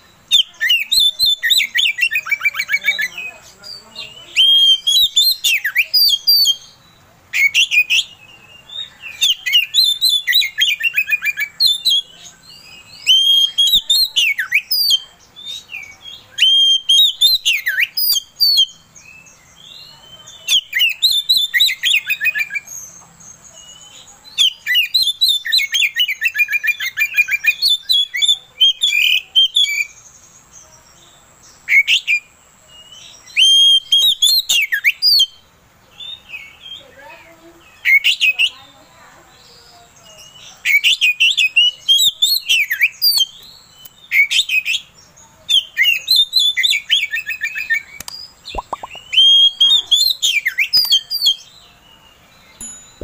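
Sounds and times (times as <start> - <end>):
bird singing whistles and chatter: 0.0 - 53.0.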